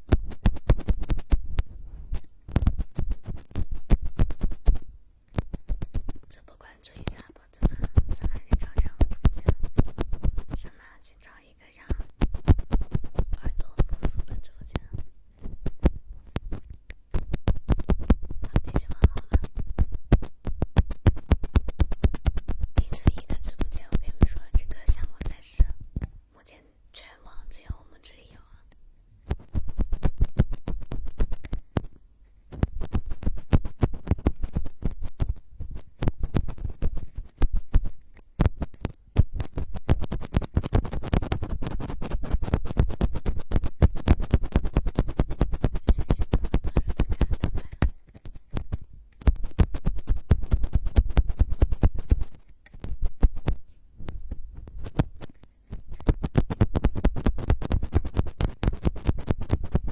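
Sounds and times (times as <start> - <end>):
sharp crackling scratches: 0.0 - 26.1, 29.2 - 59.9.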